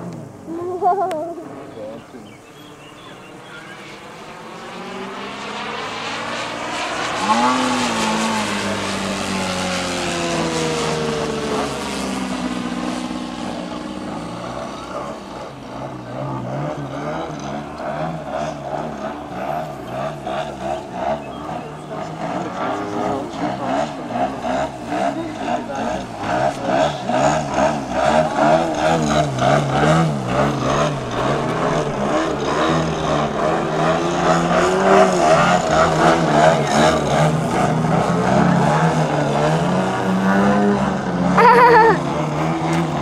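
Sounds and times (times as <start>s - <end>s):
engine fast wavering pulse: 0.0s - 43.0s
model plane engines passing: 0.0s - 43.0s.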